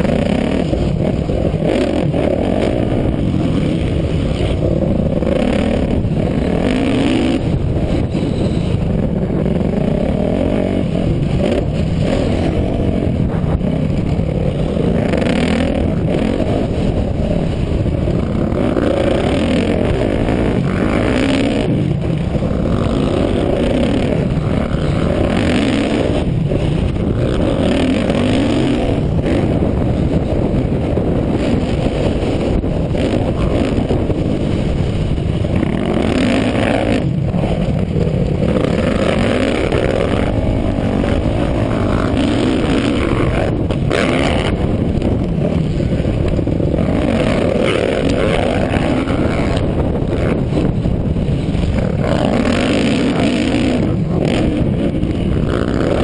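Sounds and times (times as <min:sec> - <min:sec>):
dirt bike engine revving: 0:00.0 - 0:56.0
steady rush of wind noise: 0:00.0 - 0:56.0.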